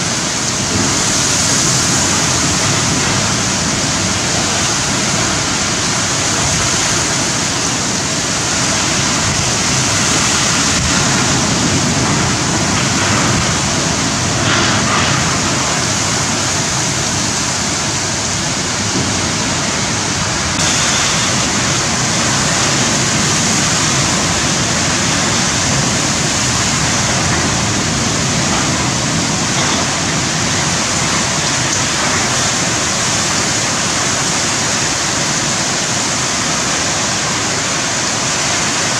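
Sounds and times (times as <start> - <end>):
heavy pouring rain: 0.0 - 38.9
strong wind: 0.0 - 38.9.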